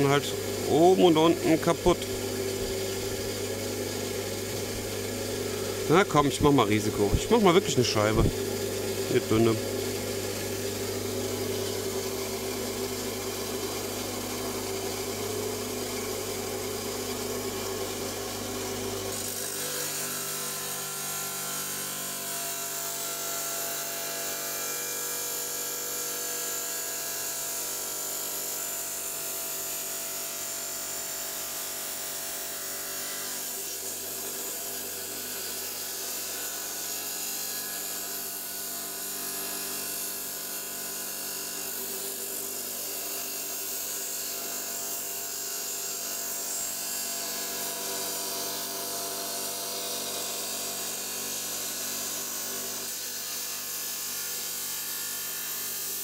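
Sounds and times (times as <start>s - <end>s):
electric stone saw grinding: 0.0s - 56.0s.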